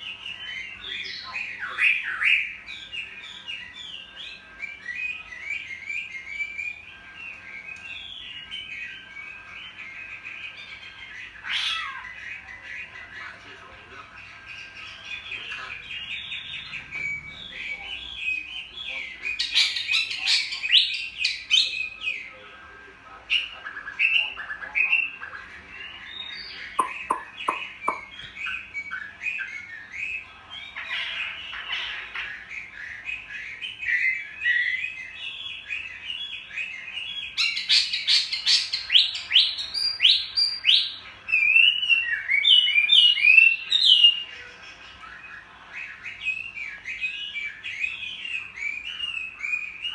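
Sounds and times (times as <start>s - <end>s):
bird singing whistled phrases: 0.0s - 12.8s, 15.1s - 22.2s, 25.8s - 30.8s, 31.6s - 44.2s, 45.2s - 49.9s.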